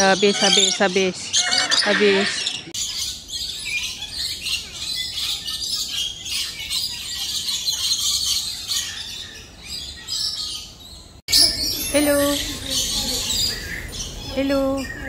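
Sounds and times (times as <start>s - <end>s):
parrots chattering: 0.0s - 15.0s.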